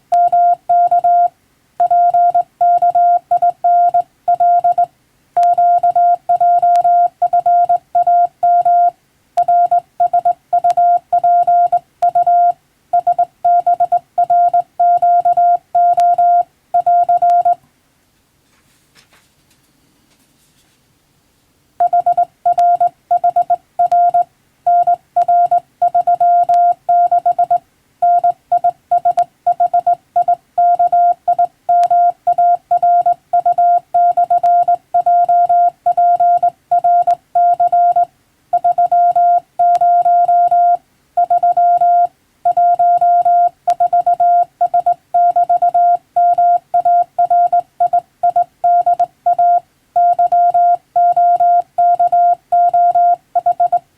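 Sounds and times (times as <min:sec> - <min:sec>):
morse code beeps: 0:00.1 - 0:17.6, 0:21.8 - 0:53.8.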